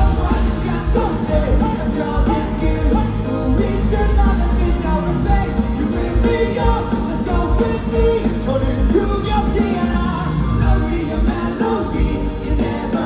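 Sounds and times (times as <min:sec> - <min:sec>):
live pop-rock band: 0:00.0 - 0:13.0
person singing: 0:00.0 - 0:13.0.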